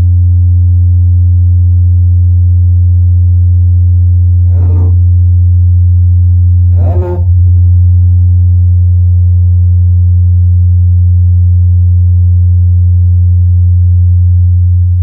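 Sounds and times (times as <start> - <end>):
loud electrical hum: 0.0 - 15.0.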